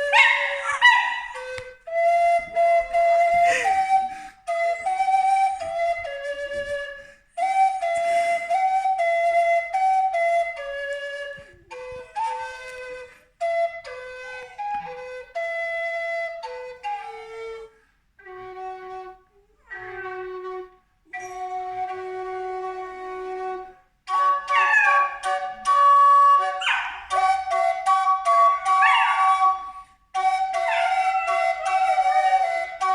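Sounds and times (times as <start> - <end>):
woodwind slow melody: 0.0 - 32.9.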